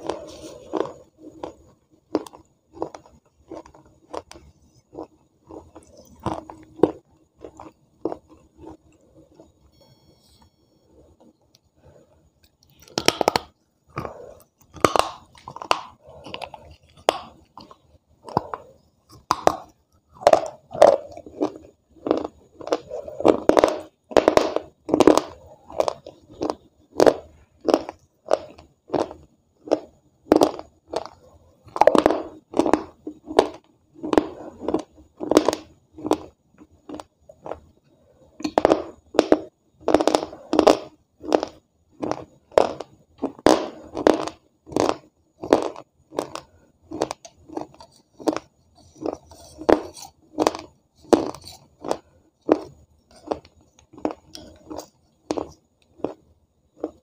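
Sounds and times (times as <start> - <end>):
person chewing crunchy clay: 0.0 - 57.0.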